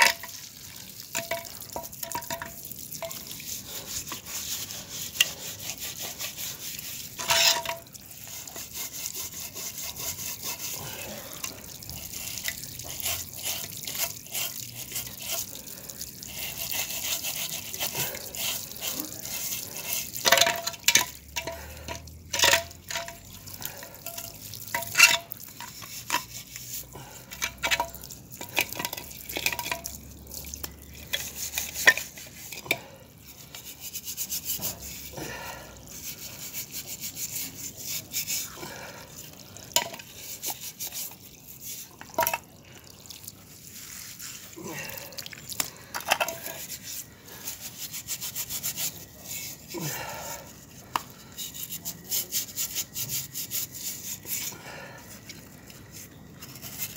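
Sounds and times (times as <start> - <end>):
garden hose water splashing: 0.0 - 56.9
scrubbing strokes: 0.0 - 56.9.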